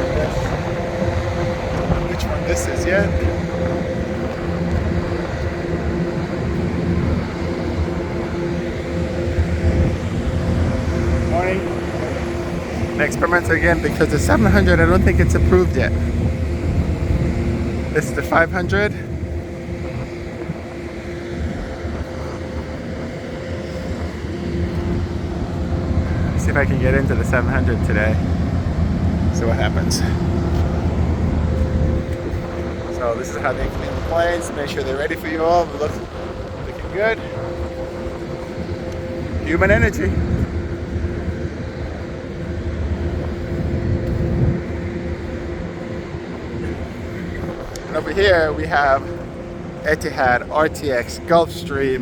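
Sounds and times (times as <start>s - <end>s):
faint steady hum: 0.0s - 52.0s
low rumble of machinery: 0.0s - 52.0s
steady tones: 0.0s - 52.0s.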